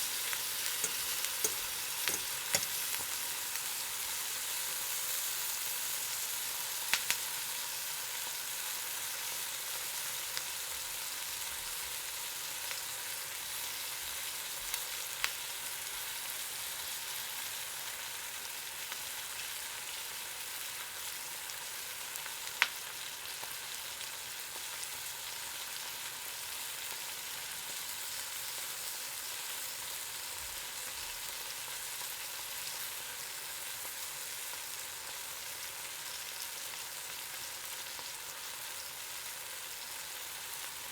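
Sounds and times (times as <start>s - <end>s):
eggs sizzling in hot oil: 0.0s - 40.9s.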